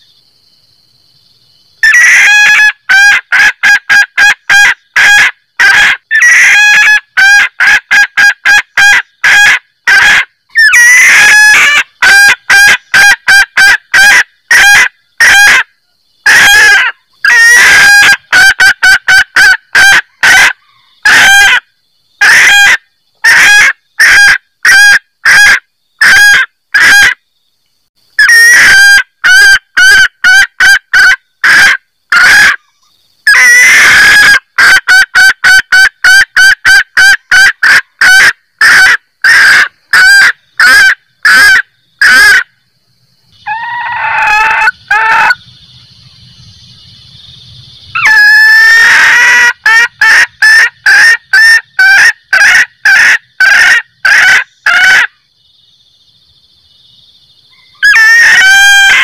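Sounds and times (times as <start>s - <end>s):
hen cackling: 1.8s - 27.2s, 28.2s - 42.5s, 43.4s - 45.4s, 47.9s - 55.2s, 57.5s - 59.0s.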